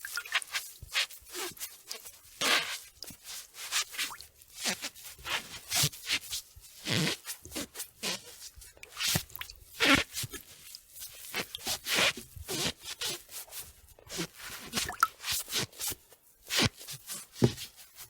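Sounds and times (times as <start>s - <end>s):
wet sponge scrubbing and squelching: 0.0s - 18.0s.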